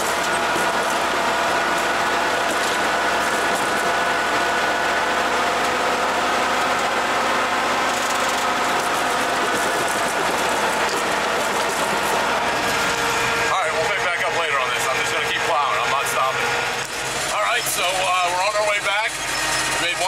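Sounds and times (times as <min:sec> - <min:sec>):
plow pushing through snow: 0:00.0 - 0:20.0
steady whine: 0:00.0 - 0:20.0
truck engine running: 0:00.0 - 0:20.0.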